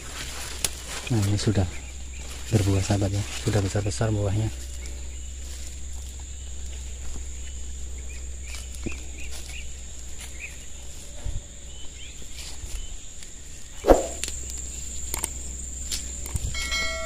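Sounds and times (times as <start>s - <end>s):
steps rustling through plants: 0.0s - 16.8s
high insect drone: 0.0s - 17.0s.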